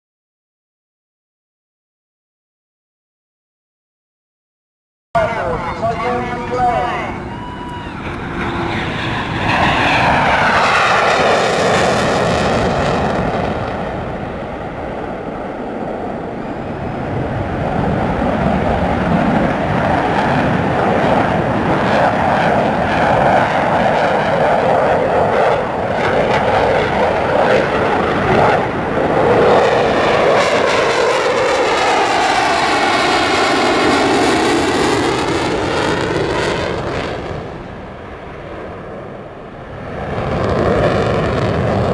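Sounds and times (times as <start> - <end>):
jet engines roaring in flyby: 5.2 - 41.9.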